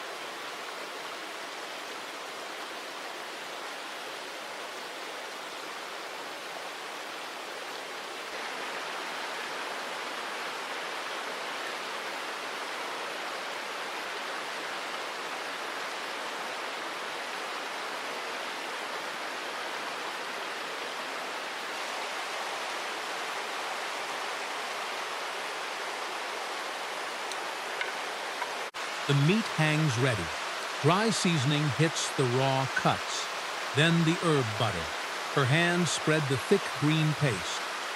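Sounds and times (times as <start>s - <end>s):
flowing river water: 0.0s - 37.9s.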